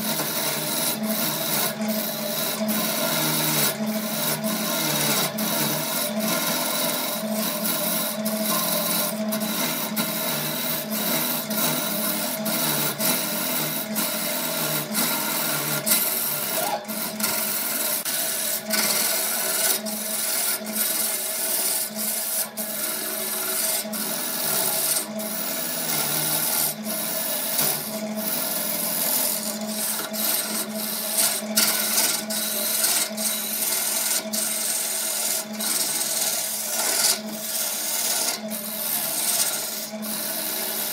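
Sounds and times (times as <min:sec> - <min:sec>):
lathe hum: 0:00.0 - 0:40.9
turning tool scraping wood: 0:00.0 - 0:40.9.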